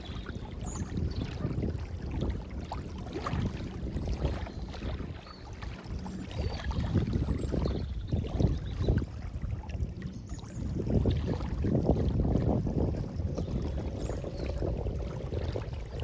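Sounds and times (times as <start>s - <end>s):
small waves lapping: 0.0s - 16.0s
wind rumble on microphone: 0.0s - 16.0s.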